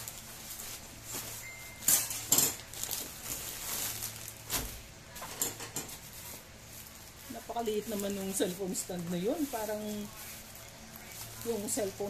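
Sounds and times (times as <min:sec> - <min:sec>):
plastic bag tearing: 0:00.0 - 0:01.5, 0:02.1 - 0:12.0
plastic bag rustling and crinkling: 0:00.0 - 0:12.0
sharp plastic crackles: 0:00.0 - 0:12.0.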